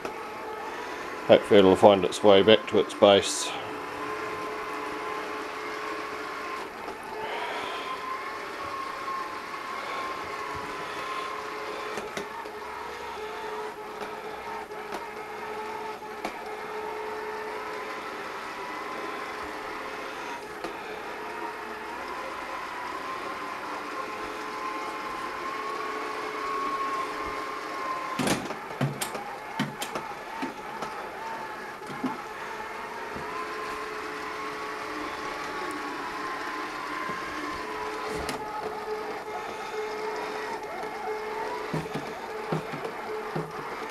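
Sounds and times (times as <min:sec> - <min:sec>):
robot vacuum motor whine: 0:00.0 - 0:43.9.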